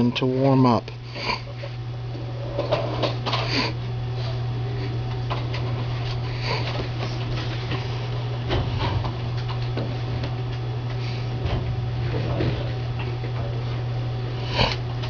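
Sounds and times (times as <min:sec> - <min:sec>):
oven electrical hum: 0:00.0 - 0:15.0.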